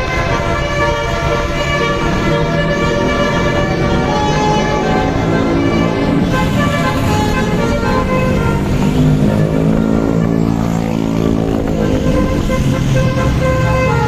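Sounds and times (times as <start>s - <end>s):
musical bus horn playing a tune: 0.0s - 14.0s
vehicle rumble: 0.0s - 14.0s.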